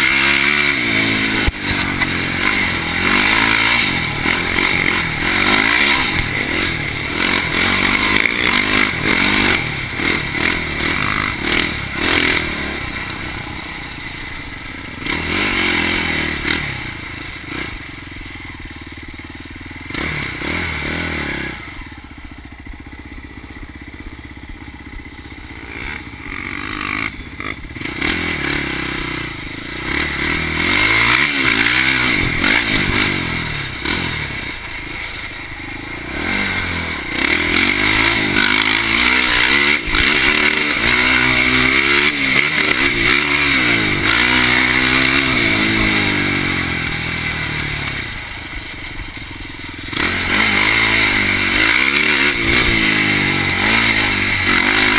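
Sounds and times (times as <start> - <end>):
quad engine revving: 0.0 - 54.9.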